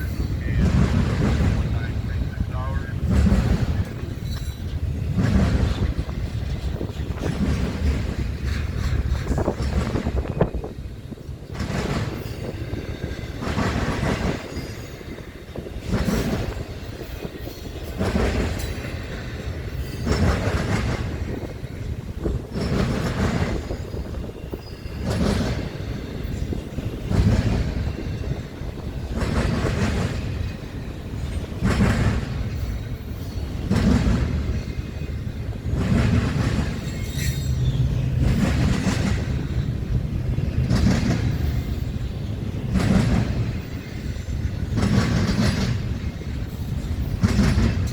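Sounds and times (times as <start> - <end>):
freight train rolling rumble: 0.0 - 47.9
train wheels clacking over rail joints: 0.0 - 47.9.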